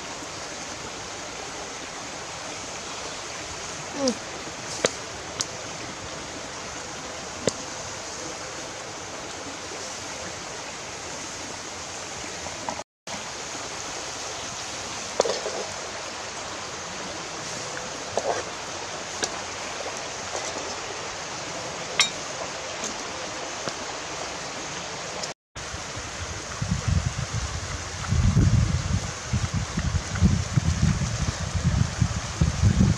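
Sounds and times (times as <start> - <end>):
stream flowing: 0.0 - 32.9.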